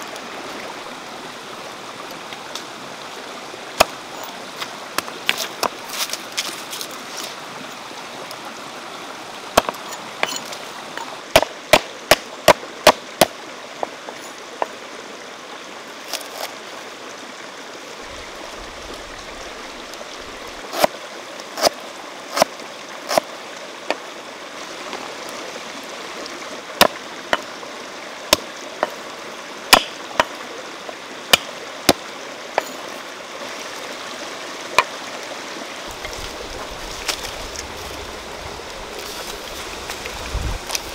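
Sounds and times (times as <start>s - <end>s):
flowing stream: 0.0s - 40.9s.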